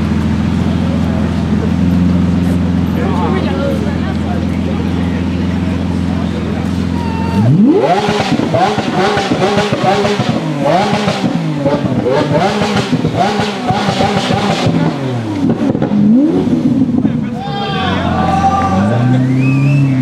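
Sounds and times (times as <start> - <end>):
sports car engine revving: 0.0 - 20.0.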